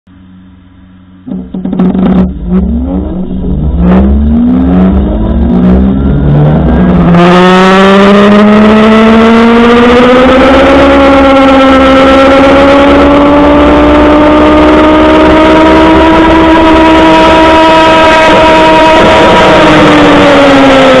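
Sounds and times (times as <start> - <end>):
electric motor grinding whine: 1.3 - 21.0.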